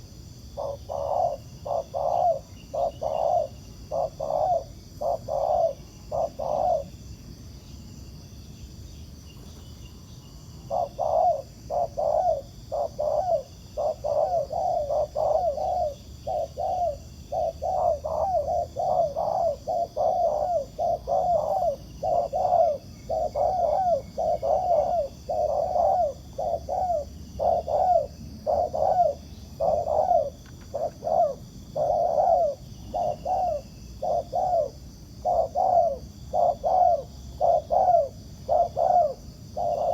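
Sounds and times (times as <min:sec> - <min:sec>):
doves cooing: 0:00.0 - 0:07.0, 0:10.6 - 0:39.9.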